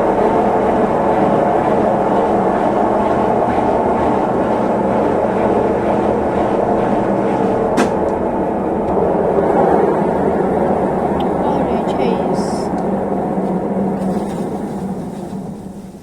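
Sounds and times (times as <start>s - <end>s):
washing machine spinning: 0.0s - 16.0s.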